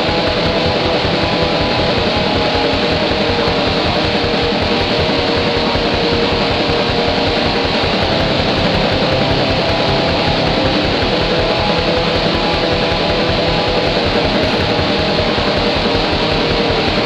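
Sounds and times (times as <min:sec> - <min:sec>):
distorted electric guitar: 0:00.0 - 0:17.0
fast drumming: 0:00.0 - 0:17.0.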